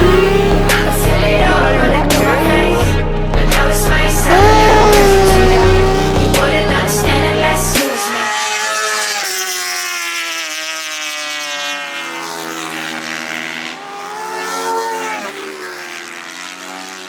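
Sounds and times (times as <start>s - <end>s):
superbike engines at high revs: 0.0s - 17.0s.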